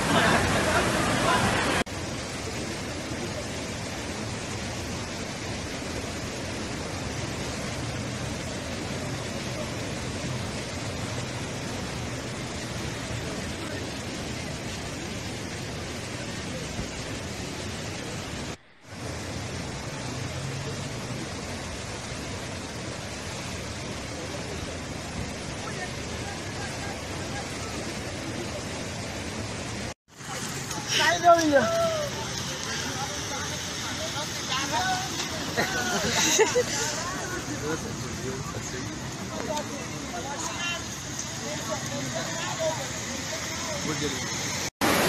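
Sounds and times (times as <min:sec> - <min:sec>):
floodwater rushing: 0:00.0 - 0:45.0.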